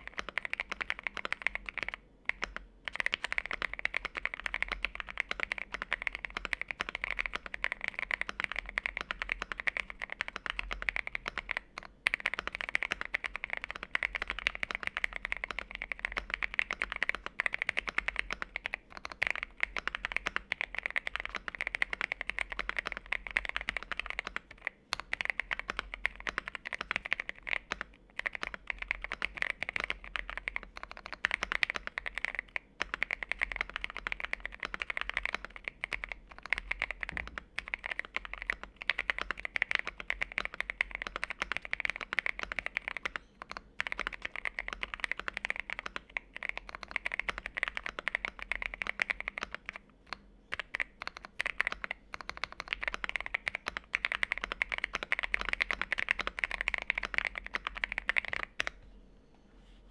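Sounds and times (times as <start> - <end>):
fast mechanical keyboard typing: 0.0 - 58.8.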